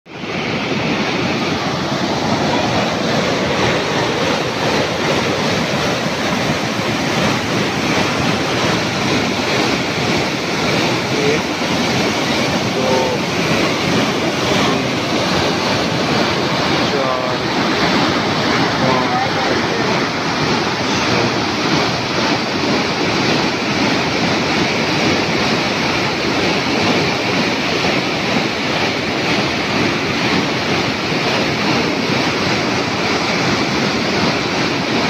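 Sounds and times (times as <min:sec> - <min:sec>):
water rushing over weir: 0:00.1 - 0:35.0.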